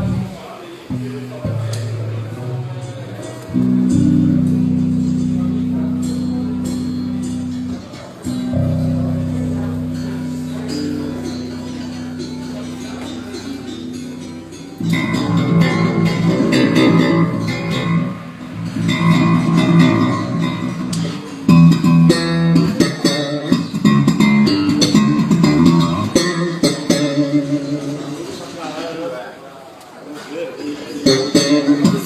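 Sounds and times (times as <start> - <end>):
electric bass guitar solo: 0.0 - 28.4, 30.9 - 32.0.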